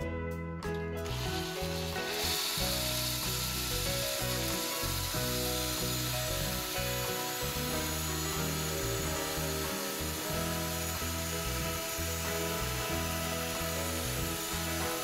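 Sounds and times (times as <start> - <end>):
background music: 0.0 - 15.0
cordless drill spinning: 1.0 - 15.0
plastic balls rolling hiss: 1.1 - 15.0.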